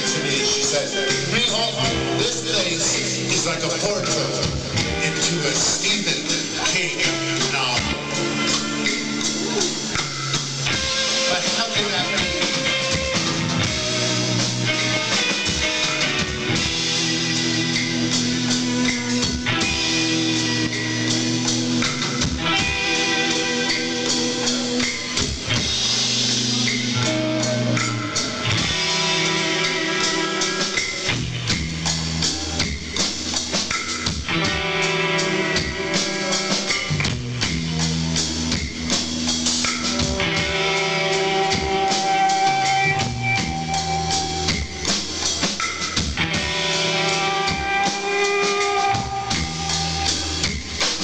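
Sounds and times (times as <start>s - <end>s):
drum kit beat: 0.0s - 51.0s
guitar chords: 0.0s - 51.0s.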